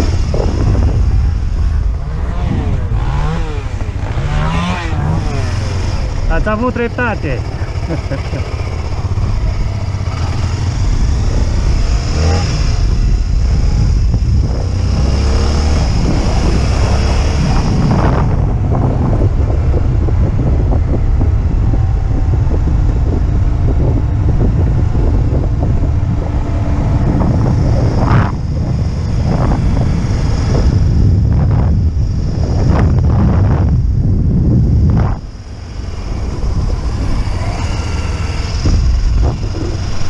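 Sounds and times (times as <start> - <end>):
motorcycle engine rumbling: 0.0 - 40.0.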